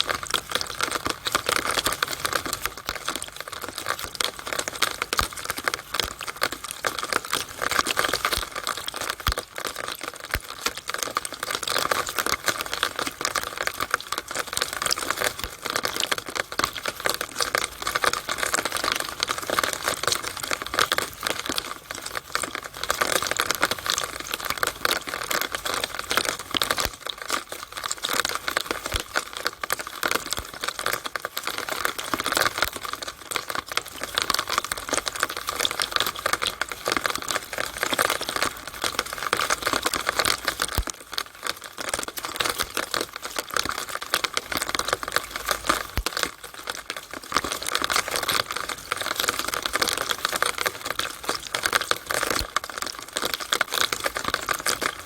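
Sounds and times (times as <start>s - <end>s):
rainwater trickling through downpipe: 0.0s - 55.0s.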